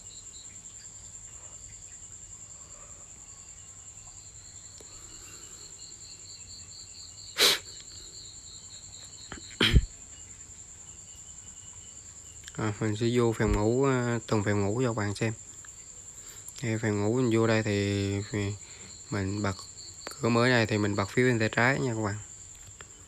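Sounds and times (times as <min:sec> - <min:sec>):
pulsing insect chirping: 0:00.0 - 0:23.0.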